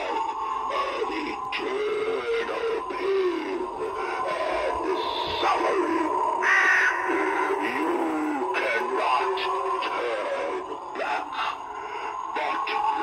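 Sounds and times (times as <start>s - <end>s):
spooky background music: 0.0s - 13.0s
voice speaking through speaker: 0.0s - 13.0s.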